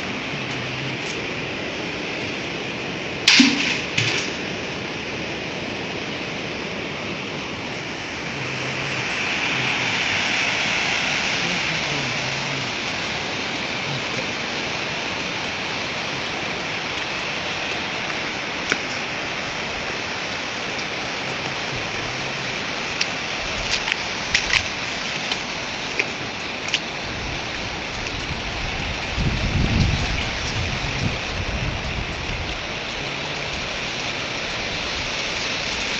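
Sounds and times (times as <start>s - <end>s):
floodwater rushing: 0.0s - 35.9s.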